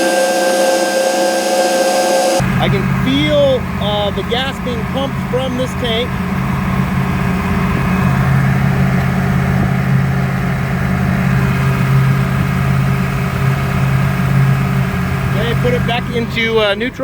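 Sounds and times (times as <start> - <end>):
boat engine revving rough: 0.0 - 17.0.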